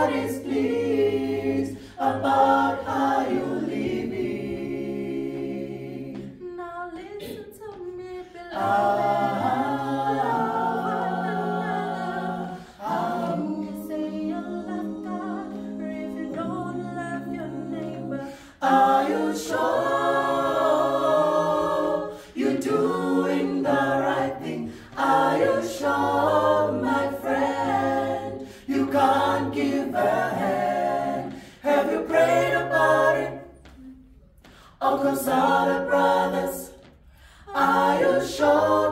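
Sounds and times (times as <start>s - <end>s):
group singing a cappella: 0.0s - 38.9s.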